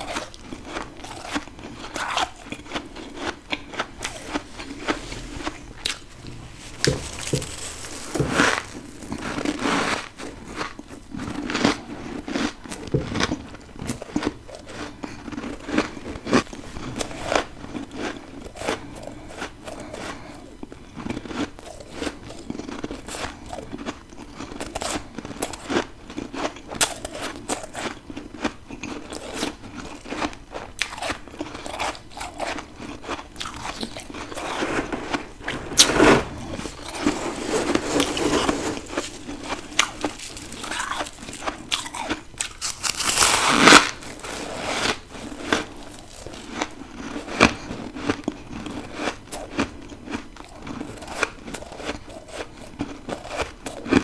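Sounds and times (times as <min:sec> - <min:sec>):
crunching ice while chewing: 0:00.0 - 0:54.0.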